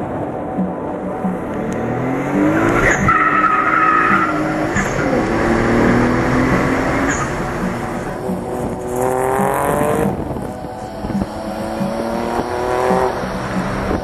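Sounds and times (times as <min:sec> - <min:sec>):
car engine accelerating: 0:01.1 - 0:14.0.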